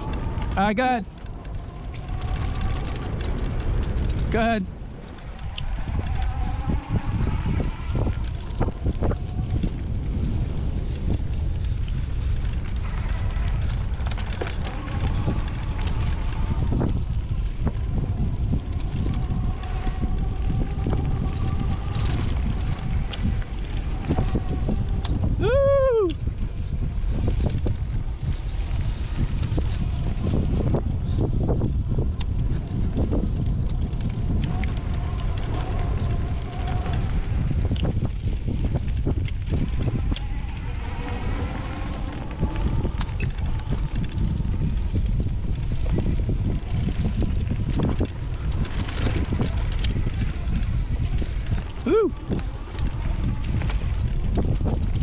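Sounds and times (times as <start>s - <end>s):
tyres rumbling over dirt trail: 0.0s - 55.0s
wind buffeting microphone: 0.0s - 55.0s.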